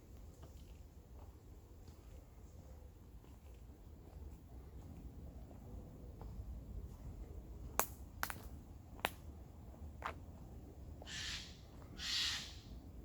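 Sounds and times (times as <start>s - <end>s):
footsteps on woodland path: 0.0s - 12.0s.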